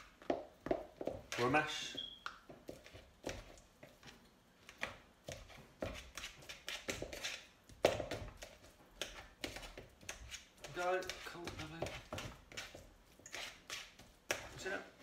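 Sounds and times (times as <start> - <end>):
fork mashing in a bowl: 2.5 - 15.0.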